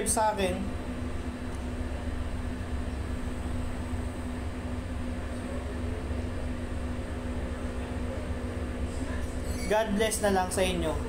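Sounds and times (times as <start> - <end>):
constant hum: 0.0 - 11.0
low machinery rumble: 0.0 - 11.0.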